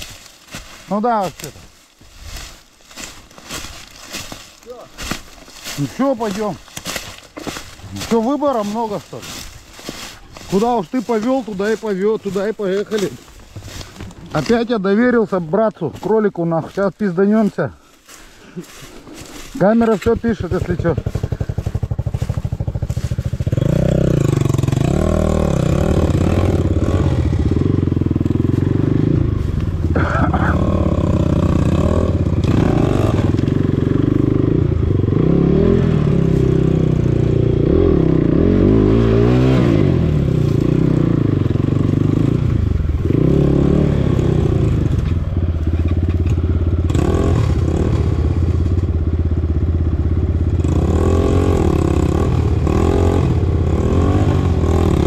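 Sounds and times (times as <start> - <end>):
dirt bike engine revving: 3.0 - 17.5, 18.6 - 55.0.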